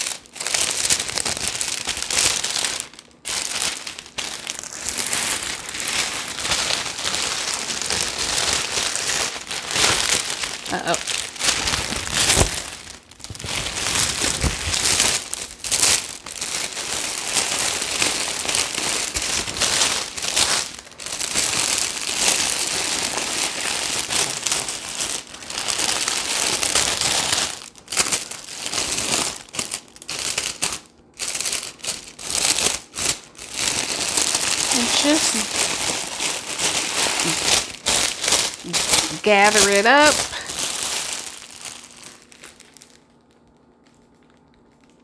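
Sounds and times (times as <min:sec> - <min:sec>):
cellophane wrap crinkling: 0:00.0 - 0:45.0.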